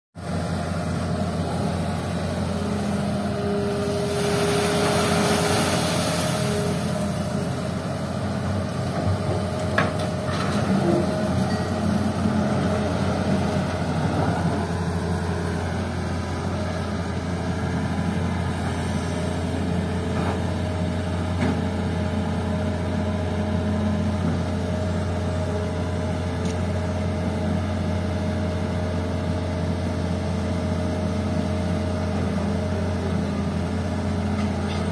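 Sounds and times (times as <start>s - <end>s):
excavator diesel engine running: 0.2s - 34.9s.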